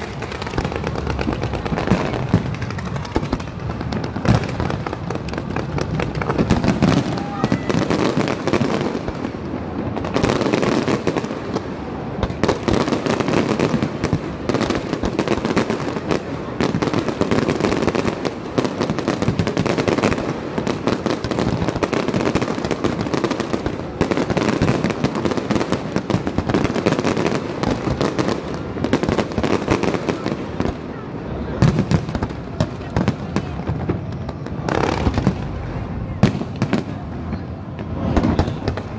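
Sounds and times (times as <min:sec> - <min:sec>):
fireworks bangs and pops: 0:00.0 - 0:38.9.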